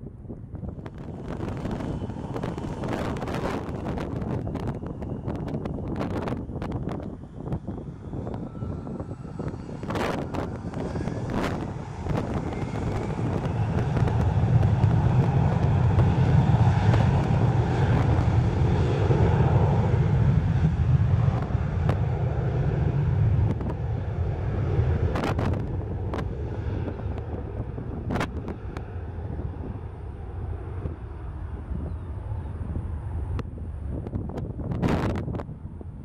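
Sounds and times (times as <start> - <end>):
jet engines roaring: 0.0 - 36.0
wind buffeting microphone: 0.0 - 36.0.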